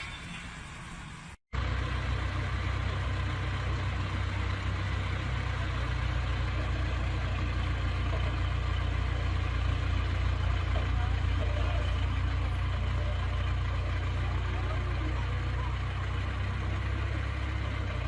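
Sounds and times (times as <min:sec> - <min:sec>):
heavy vehicle engine droning: 0:00.0 - 0:18.0.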